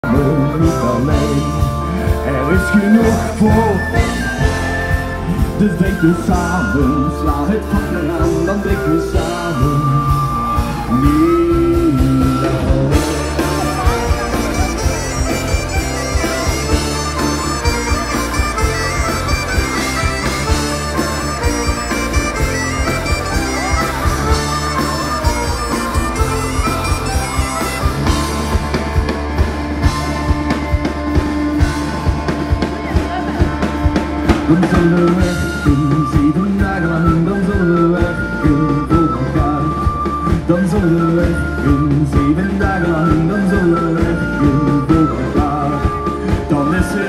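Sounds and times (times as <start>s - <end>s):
folk-rock band playing: 0.0s - 47.0s
high whistle melody: 0.5s - 32.8s, 34.6s - 47.0s.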